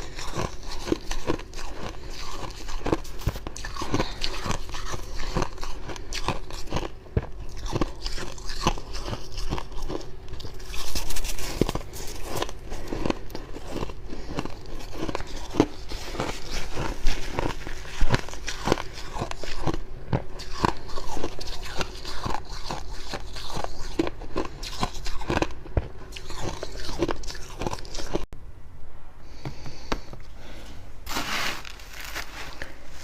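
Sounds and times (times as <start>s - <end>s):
frost being chewed: 0.0s - 28.3s.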